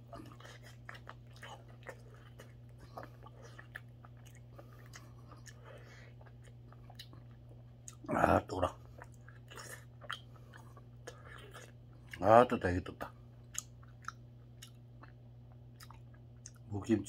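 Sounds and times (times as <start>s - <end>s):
person chewing: 0.0s - 16.7s
steady low hum: 0.0s - 17.0s.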